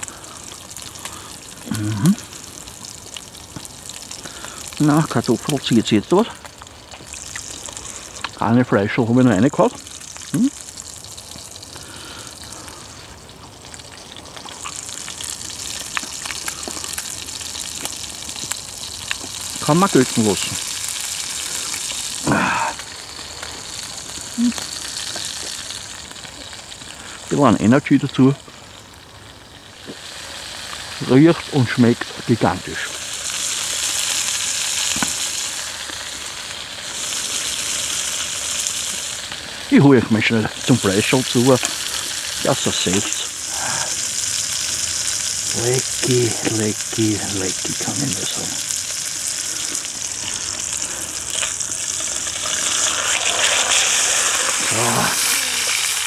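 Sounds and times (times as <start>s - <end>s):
steak sizzling in frying pan: 0.0s - 56.0s.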